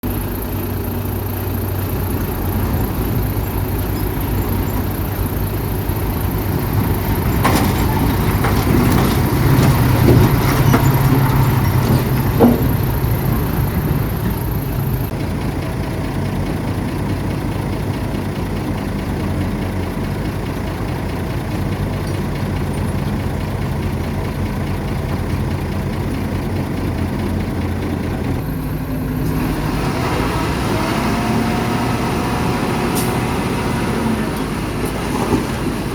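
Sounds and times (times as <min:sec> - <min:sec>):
metal clanking: 0:00.0 - 0:30.6
bulldozer diesel engine: 0:00.0 - 0:35.9.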